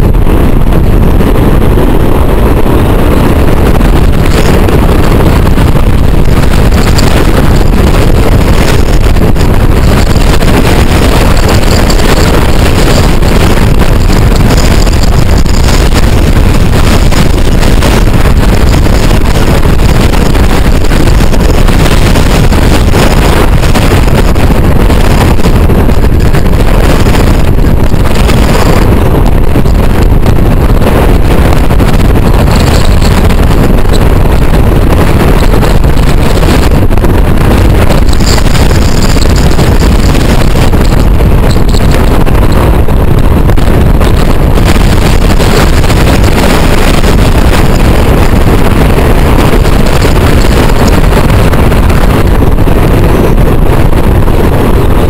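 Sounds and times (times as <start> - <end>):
road noise from vehicle: 0.0 - 54.4
wind buffeting microphone: 0.0 - 55.0.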